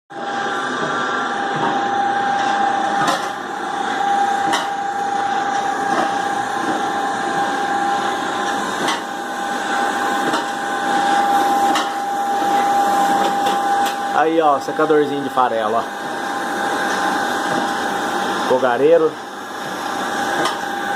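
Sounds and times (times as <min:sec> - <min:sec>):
dryer motor whining and humming: 0:00.1 - 0:20.9.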